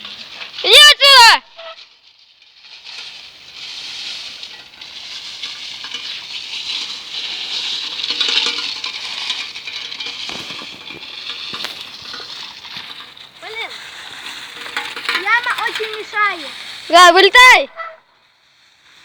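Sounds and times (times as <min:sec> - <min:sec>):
bike tyres rustling through leaves: 0:00.0 - 0:19.0.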